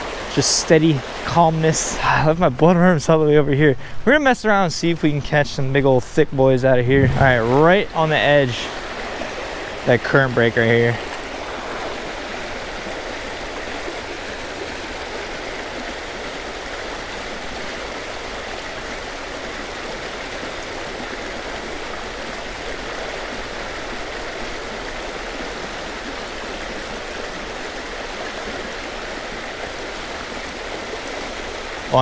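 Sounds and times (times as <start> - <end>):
creek rushing over rocks: 0.0 - 32.0.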